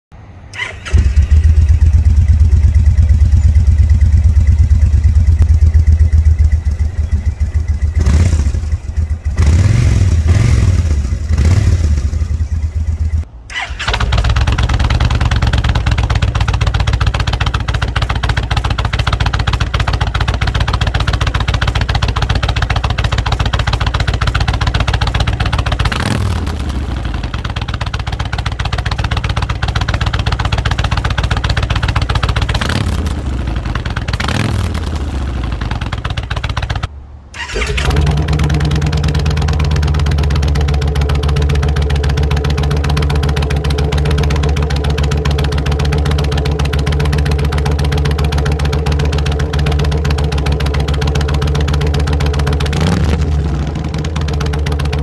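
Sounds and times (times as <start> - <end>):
motorcycle engine idling and revving: 0.1 - 55.0.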